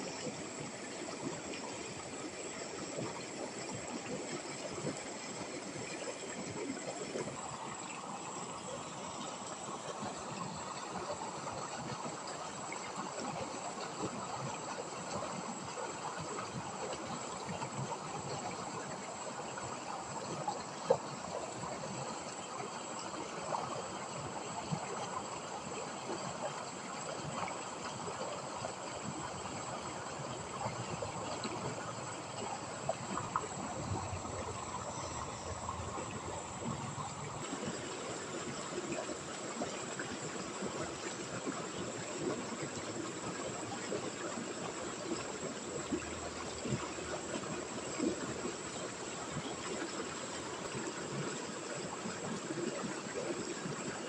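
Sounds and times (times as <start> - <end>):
river water running: 0.0 - 54.0.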